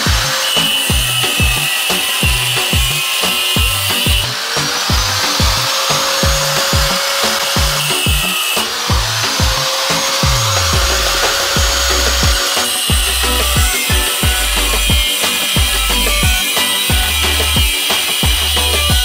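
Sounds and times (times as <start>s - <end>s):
electronic music with kick drum: 0.0s - 19.0s.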